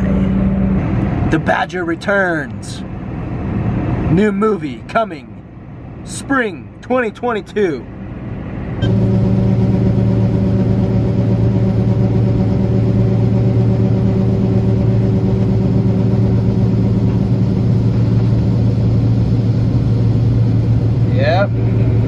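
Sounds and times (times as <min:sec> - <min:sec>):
farm machinery engine humming: 0:00.0 - 0:22.0.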